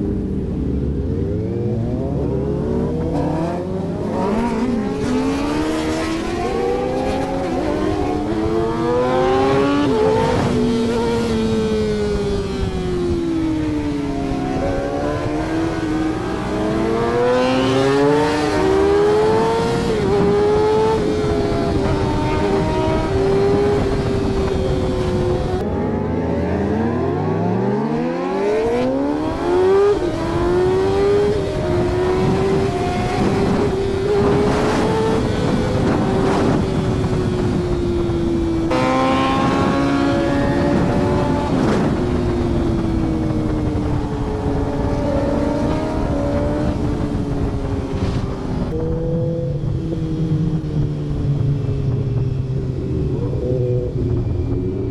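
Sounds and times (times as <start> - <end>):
motorbike engine revving high: 0.0 - 50.8.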